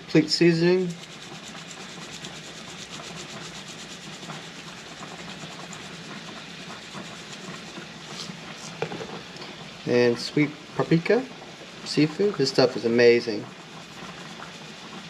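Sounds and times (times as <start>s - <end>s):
water boiling in a pot: 0.0s - 15.0s.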